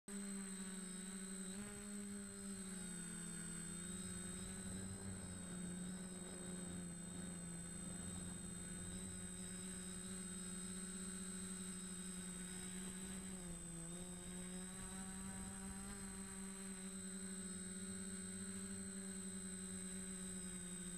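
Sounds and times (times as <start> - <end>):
quadcopter propellers humming: 0.1 - 20.9.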